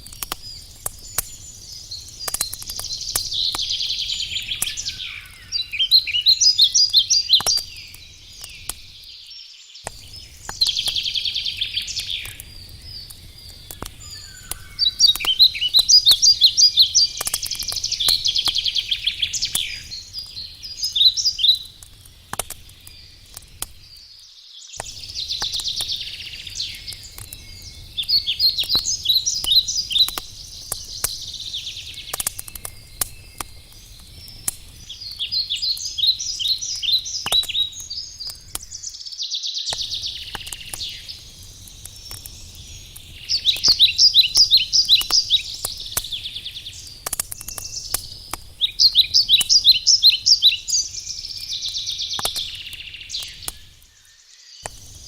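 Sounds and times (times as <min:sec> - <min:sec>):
campfire crackling: 0:00.0 - 0:55.0
songbird chirping and trilling: 0:00.0 - 0:55.0.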